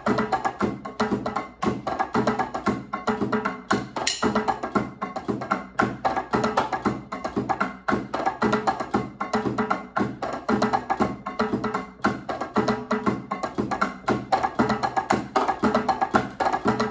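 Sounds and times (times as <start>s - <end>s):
electronic drums latin groove: 0.0s - 16.9s
wood-block-like strikes: 0.0s - 16.9s.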